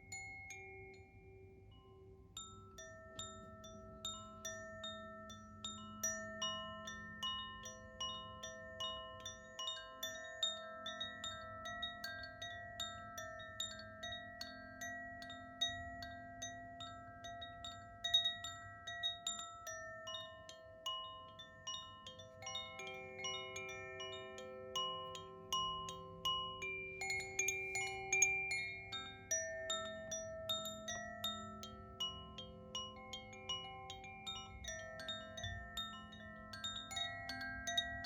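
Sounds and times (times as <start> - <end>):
wind chime ringing: 0.0 - 38.0.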